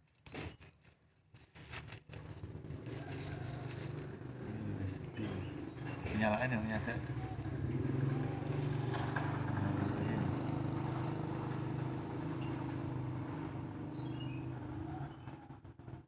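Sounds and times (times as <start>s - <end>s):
engine running with low hum: 1.4s - 16.0s.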